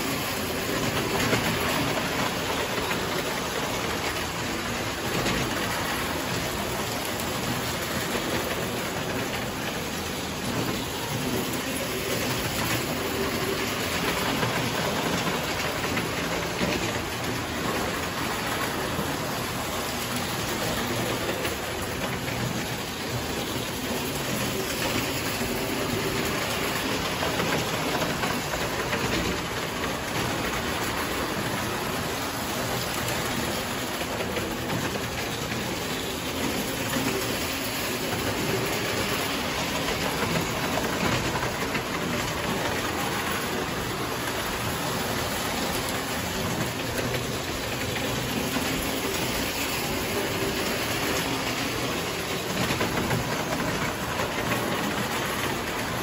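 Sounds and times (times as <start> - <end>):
toy train wheels on metal rails: 0.0 - 56.0.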